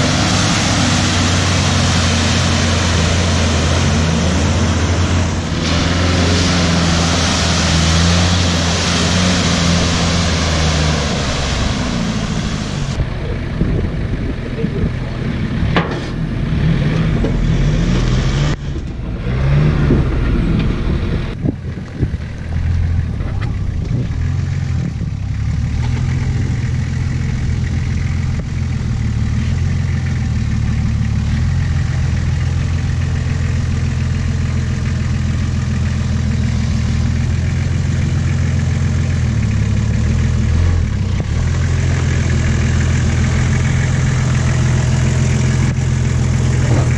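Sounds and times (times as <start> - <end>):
vehicle engine running low: 0.0 - 46.9.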